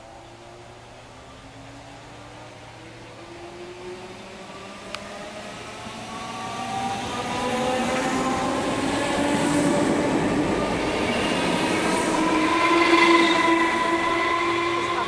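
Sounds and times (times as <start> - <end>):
electric train passing: 0.0 - 15.0
steady tones sliding upward: 1.5 - 15.0.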